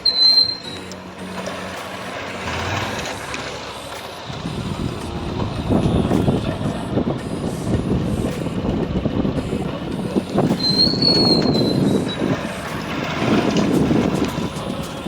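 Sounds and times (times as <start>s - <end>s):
low irregular rumble: 0.0s - 15.0s
road and traffic noise: 0.0s - 15.0s.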